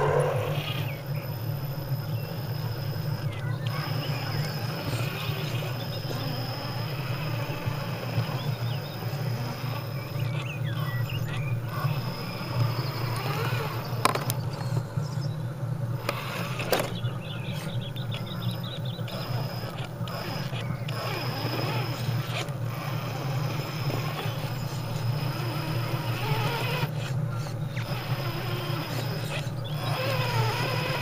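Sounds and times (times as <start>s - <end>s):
electric motor and gears whining: 0.0s - 31.0s.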